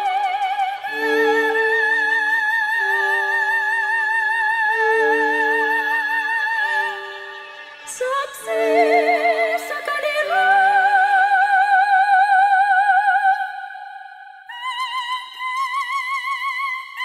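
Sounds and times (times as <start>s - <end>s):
operatic singing voice: 0.0s - 17.0s.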